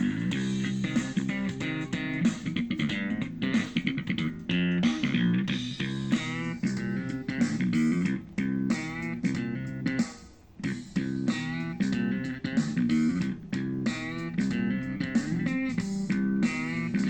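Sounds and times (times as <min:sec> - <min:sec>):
guitar-led music with bass: 0:00.0 - 0:17.0.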